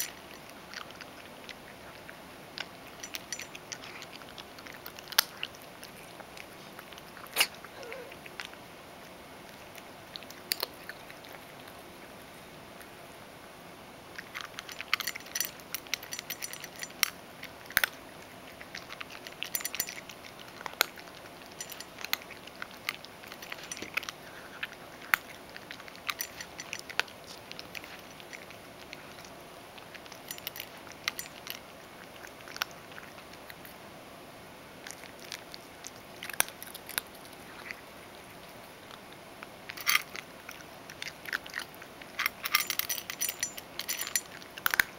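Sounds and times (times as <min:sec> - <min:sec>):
cat crunching food: 0:00.0 - 0:13.0, 0:14.1 - 0:33.8, 0:34.7 - 0:44.9.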